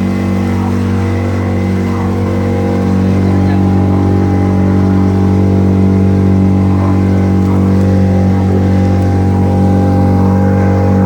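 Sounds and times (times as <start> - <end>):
speedboat engine droning: 0.0 - 11.0.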